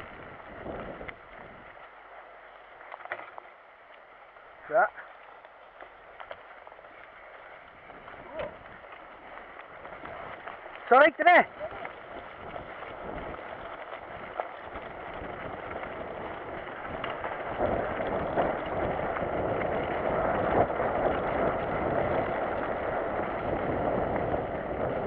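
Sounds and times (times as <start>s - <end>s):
wind on camera: 0.0s - 1.9s, 6.2s - 25.0s
tyres rolling on wet ground: 0.0s - 25.0s.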